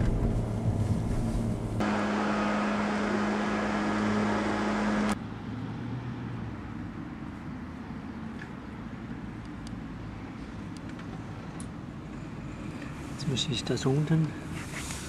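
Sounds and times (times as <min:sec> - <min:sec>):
car engine hum and road noise: 0:00.0 - 0:15.0.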